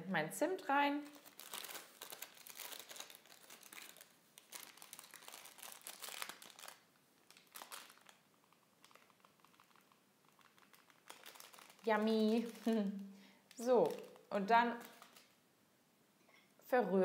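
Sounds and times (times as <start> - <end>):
paper bag crinkling: 1.0 - 15.4.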